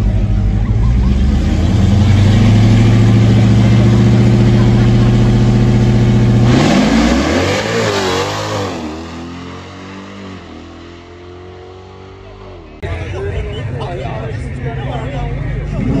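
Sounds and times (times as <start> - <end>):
race car engine revving: 0.0 - 12.9, 15.3 - 16.0.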